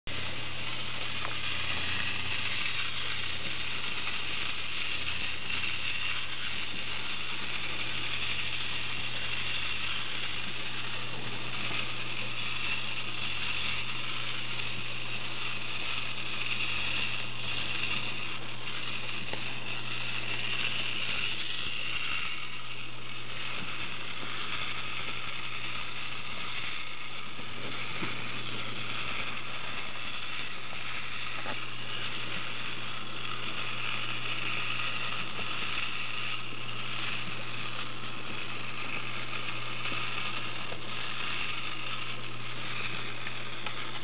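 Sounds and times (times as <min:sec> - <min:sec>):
clockwork toy motor whirring: 0:00.1 - 0:44.0.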